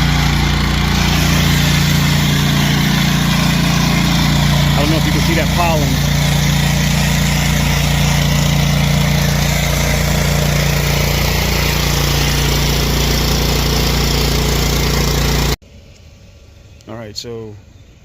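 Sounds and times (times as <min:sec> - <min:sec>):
pressure washer engine running: 0:00.0 - 0:15.6
water spray hissing: 0:00.0 - 0:15.6.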